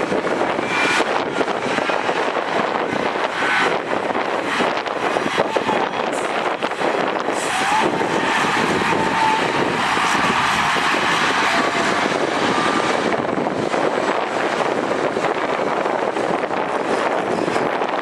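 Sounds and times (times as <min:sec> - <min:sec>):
diesel earthmoving machinery working: 0:00.0 - 0:18.0.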